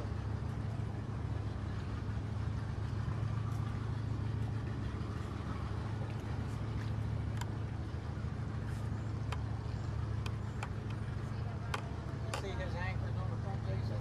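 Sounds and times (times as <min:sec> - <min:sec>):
ship engines humming: 0:00.0 - 0:14.0.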